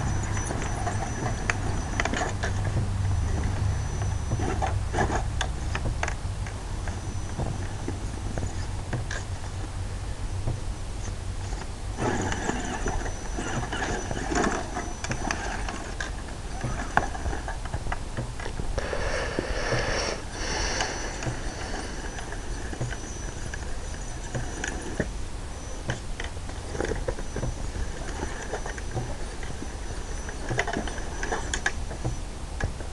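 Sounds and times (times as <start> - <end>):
electric motor whining: 0.0 - 32.8
wheels and chassis clattering: 0.0 - 32.9.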